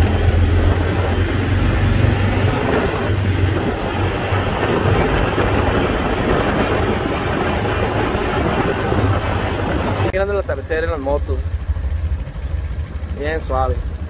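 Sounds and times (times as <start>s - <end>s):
atv engine cruising: 0.0s - 14.0s
wind noise: 0.0s - 14.0s.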